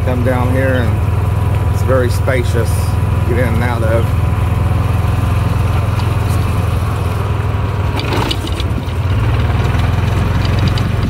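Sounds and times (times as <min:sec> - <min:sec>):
small vehicle engine running: 0:00.0 - 0:11.0.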